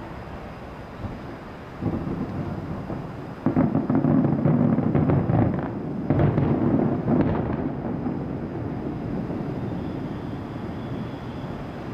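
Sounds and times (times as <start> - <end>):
distant fireworks booming: 1.0 - 11.9.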